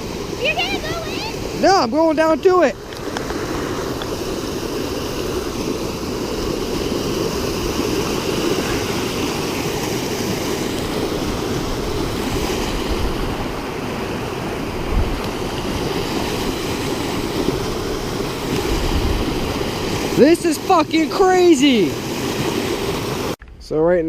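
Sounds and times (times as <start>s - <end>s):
stream rushing: 0.0s - 23.4s.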